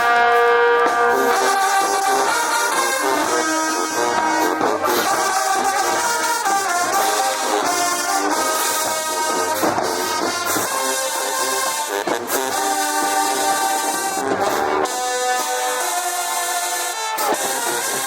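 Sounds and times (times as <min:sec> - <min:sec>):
percussion hits: 0:00.0 - 0:15.0
brass band music: 0:00.0 - 0:18.0.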